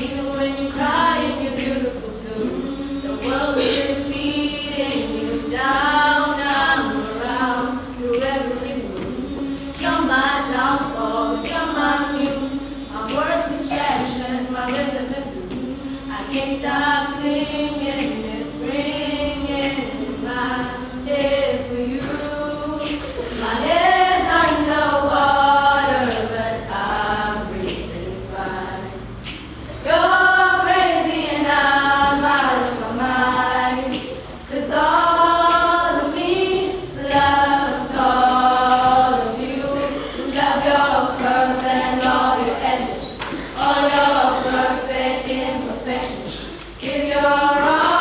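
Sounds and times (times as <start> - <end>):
girls singing together: 0.0 - 48.0.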